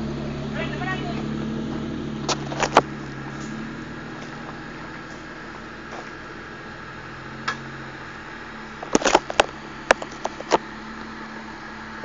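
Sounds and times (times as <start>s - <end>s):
suv engine running at low revs: 0.0s - 12.0s.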